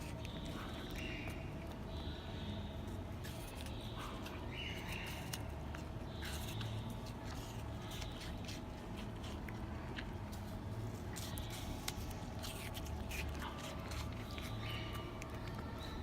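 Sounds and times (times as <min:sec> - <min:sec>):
animal chewing apple: 0:00.0 - 0:16.0
low background hum: 0:00.0 - 0:16.0.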